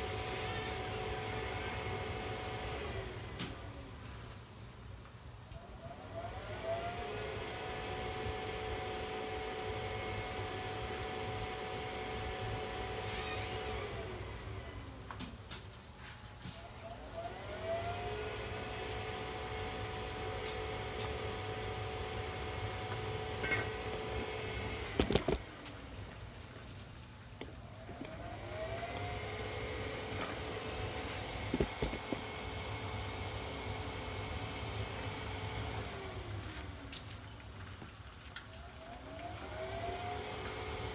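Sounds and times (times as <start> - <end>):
fan motor whine: 0.0 - 40.9.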